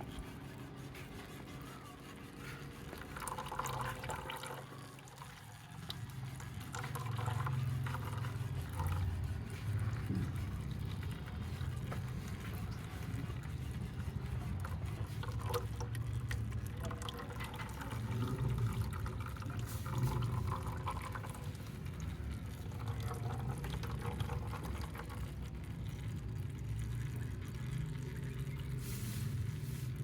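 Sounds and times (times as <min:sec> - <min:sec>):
low steady hum: 0:00.0 - 0:30.0
oil pouring: 0:02.3 - 0:30.0.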